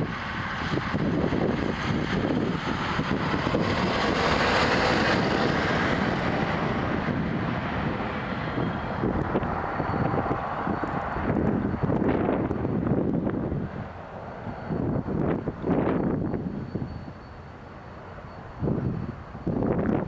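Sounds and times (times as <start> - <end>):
diesel locomotive engine: 0.0 - 20.0
wind noise on microphone: 0.0 - 20.0.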